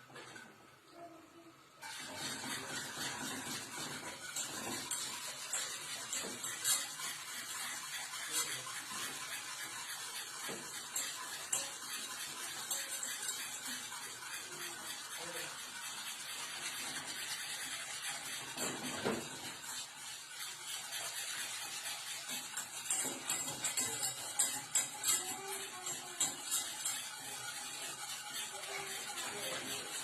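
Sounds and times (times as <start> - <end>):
spoon scraping in a pot: 1.8 - 30.0.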